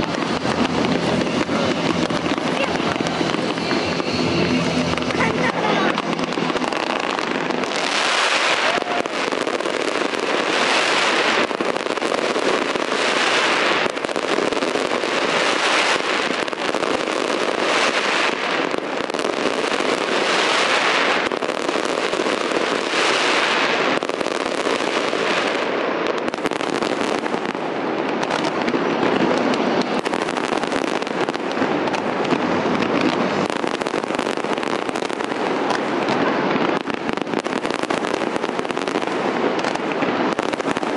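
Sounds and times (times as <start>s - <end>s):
fireworks crackling and popping: 0.0s - 40.9s.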